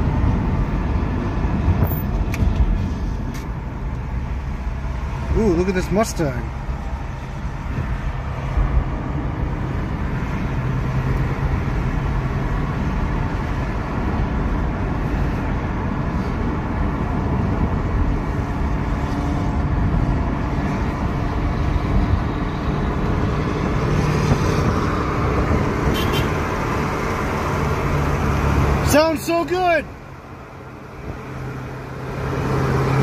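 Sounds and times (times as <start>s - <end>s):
car engine drone: 0.0s - 33.0s
tyre road noise: 0.0s - 33.0s.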